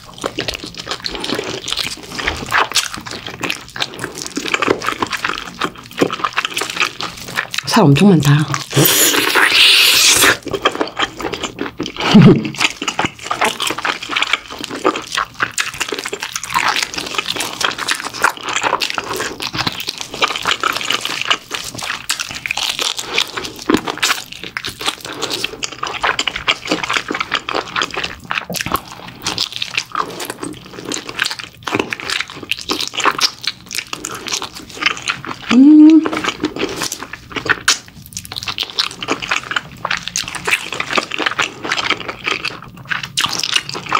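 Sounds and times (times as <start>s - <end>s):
person chewing with wet smacks: 0.0s - 43.9s.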